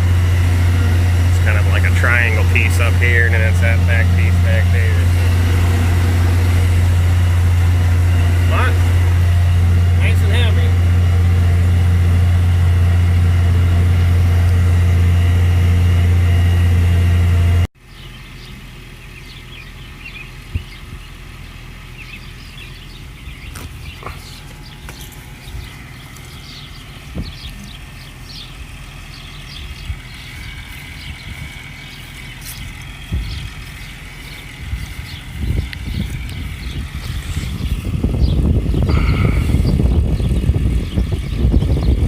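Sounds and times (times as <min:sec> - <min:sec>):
tractor engine drone: 0:00.0 - 0:42.0.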